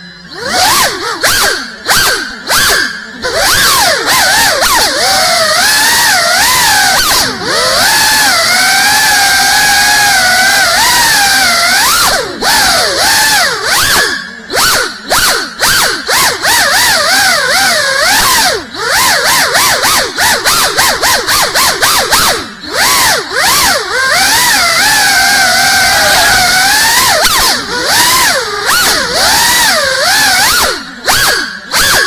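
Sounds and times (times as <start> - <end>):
quadcopter motors whining: 0.0 - 32.0.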